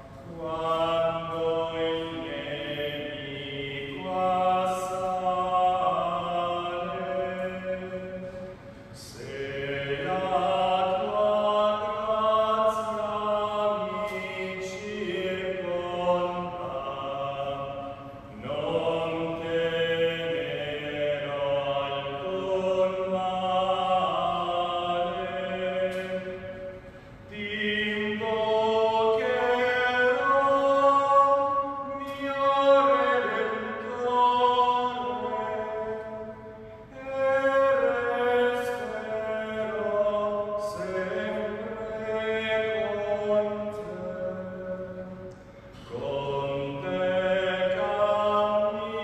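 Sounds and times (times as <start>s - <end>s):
slow chant in long notes: 0.0s - 49.0s.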